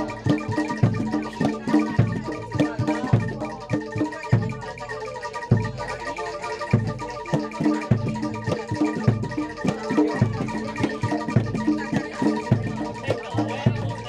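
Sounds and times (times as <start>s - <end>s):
drum strokes: 0.0s - 14.0s
ringing metallophone notes: 0.0s - 14.0s.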